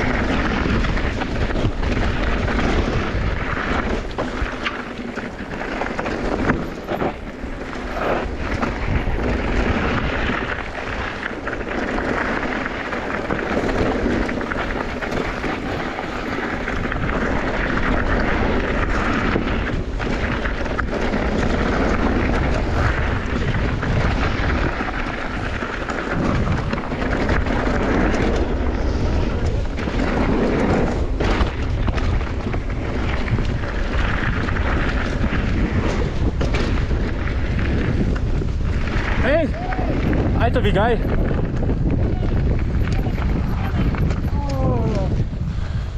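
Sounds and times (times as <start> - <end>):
bike knocks and rattles: 0.0 - 45.4
tyres rumbling on dirt: 0.0 - 45.9
wind buffeting microphone: 0.0 - 45.9.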